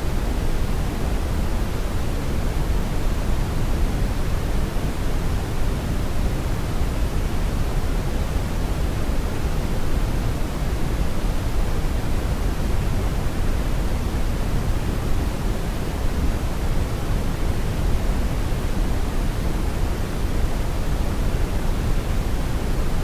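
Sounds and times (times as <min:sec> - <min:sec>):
brown noise hiss: 0:00.0 - 0:23.0.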